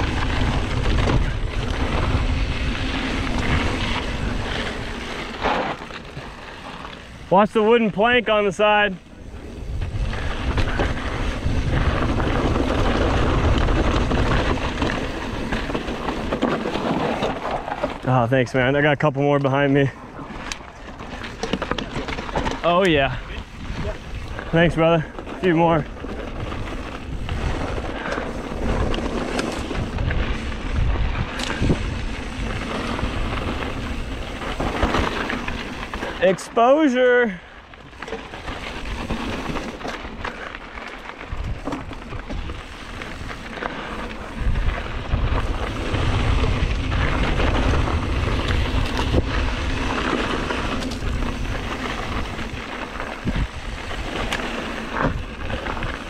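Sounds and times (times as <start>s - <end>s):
wind buffeting microphone: 0.0s - 5.4s, 9.1s - 18.5s, 20.2s - 36.2s, 41.2s - 56.0s
bike clicks and rattles: 0.0s - 56.0s
bike tyres rumbling on rocky dirt: 0.0s - 56.0s.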